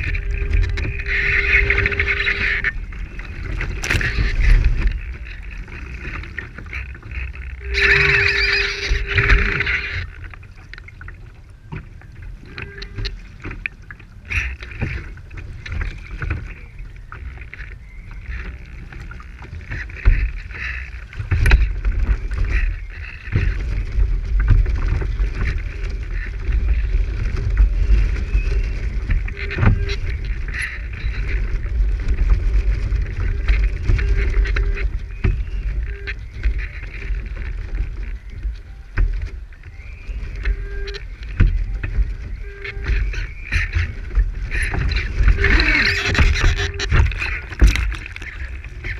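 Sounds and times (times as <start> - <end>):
water slapping against hull: 0.0 - 48.9
water splashing along hull: 0.0 - 48.9
wind rumble on microphone: 0.0 - 48.9.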